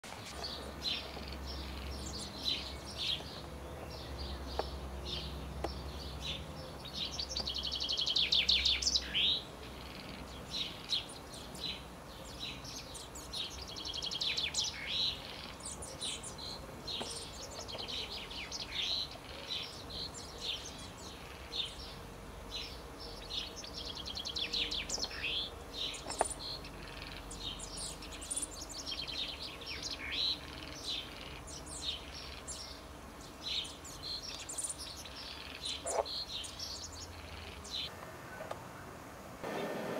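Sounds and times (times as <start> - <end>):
chaffinch song: 0.0 - 39.9.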